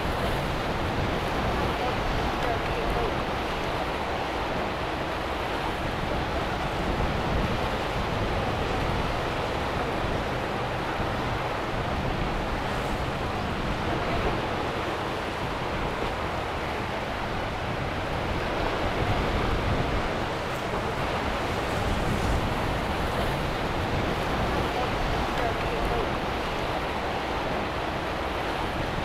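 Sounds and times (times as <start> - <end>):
breaking waves and surf: 0.0 - 29.0
wind buffeting microphone: 0.0 - 29.0.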